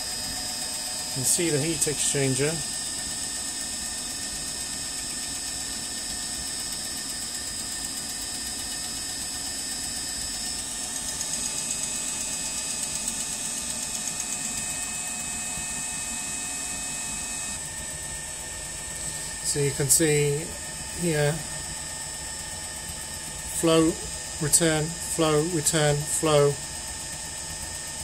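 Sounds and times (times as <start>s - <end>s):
heater humming and whining: 0.0s - 28.0s.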